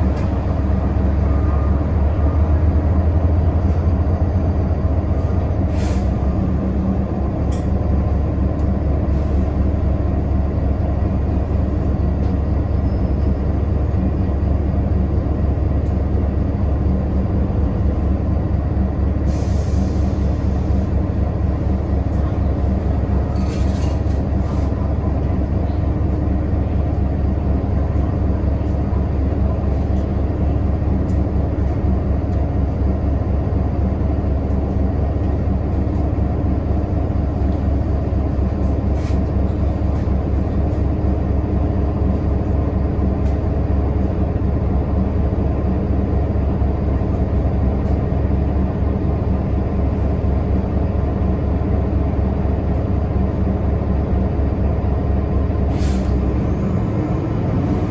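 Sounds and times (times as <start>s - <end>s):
bus engine drone: 0.0s - 57.9s
road noise: 0.0s - 57.9s.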